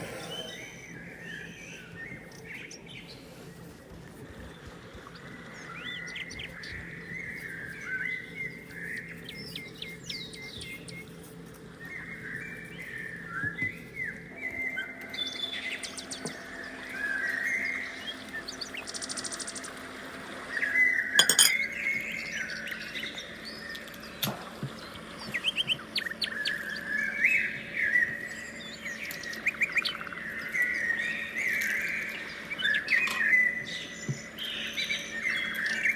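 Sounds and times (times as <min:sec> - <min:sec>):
faint steady hum: 0:00.0 - 0:35.9
small birds chirping: 0:00.0 - 0:35.9.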